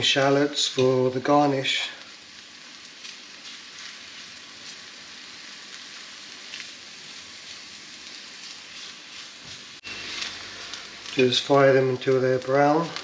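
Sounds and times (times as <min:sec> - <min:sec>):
shallots frying in oil: 0:00.0 - 0:13.0.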